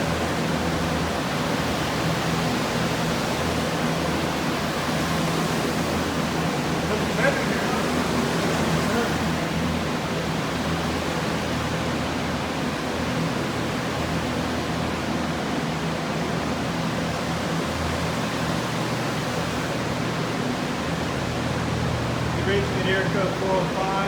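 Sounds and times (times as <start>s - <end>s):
blower fans whooshing: 0.0s - 24.0s.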